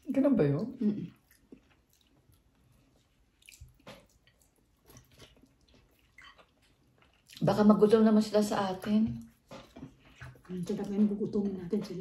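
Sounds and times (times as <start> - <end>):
faint chewing and mouth sounds: 0.0 - 12.0.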